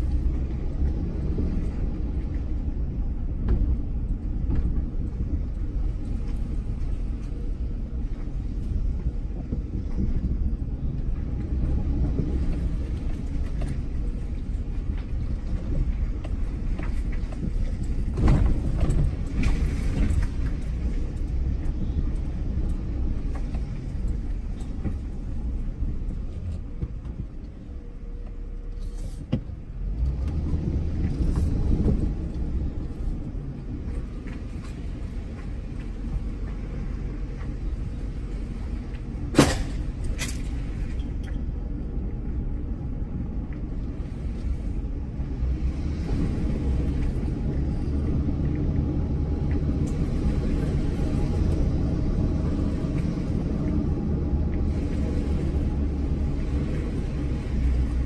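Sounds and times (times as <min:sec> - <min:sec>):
pickup truck engine rumble: 0:00.0 - 0:58.0.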